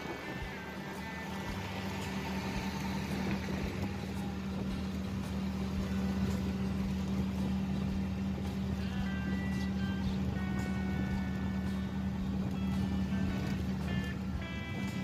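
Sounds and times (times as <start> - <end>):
auto-rickshaw engine humming: 0.0 - 15.0
road and wind noise: 0.0 - 15.0.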